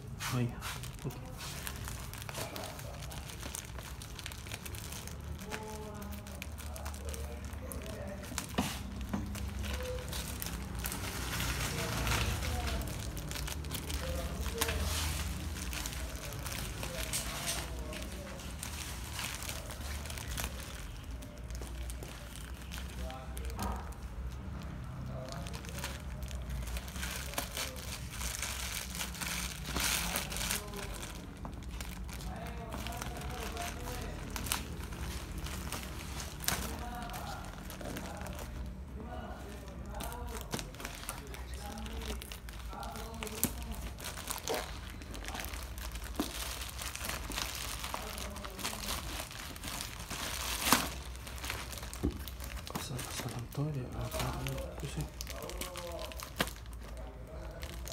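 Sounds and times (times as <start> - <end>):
plastic wrapping crinkling: 0.0 - 57.9.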